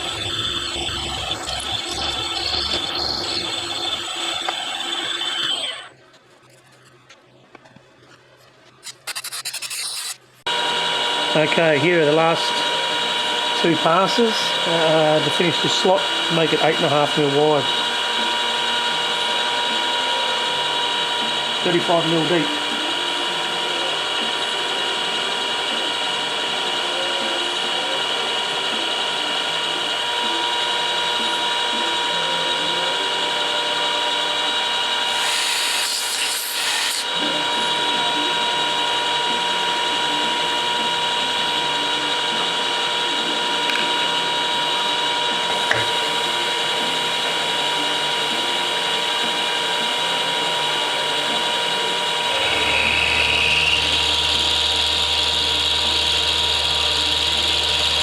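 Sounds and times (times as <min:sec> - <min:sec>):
milling machine whine: 0:00.0 - 0:06.4, 0:08.8 - 0:58.0.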